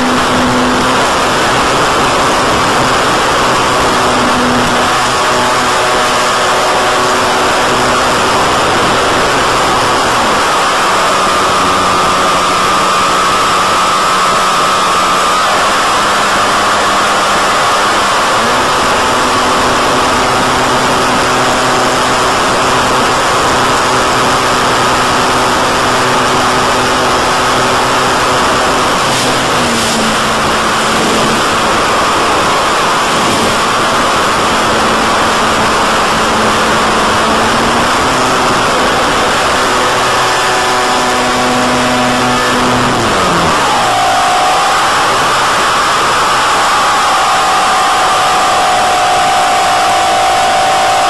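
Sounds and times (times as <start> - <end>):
electric motor and propeller: 0.0 - 51.0
loud steady hiss: 0.0 - 51.0.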